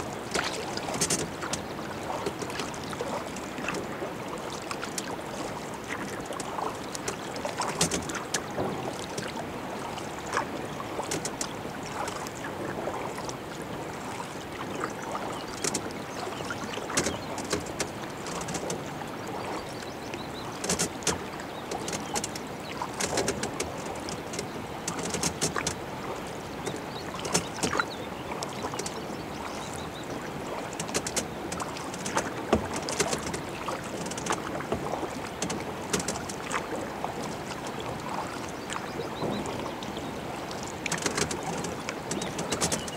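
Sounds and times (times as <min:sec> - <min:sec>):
kayak paddle splashing: 0:00.0 - 0:42.9
trickle of moving water: 0:00.0 - 0:42.9.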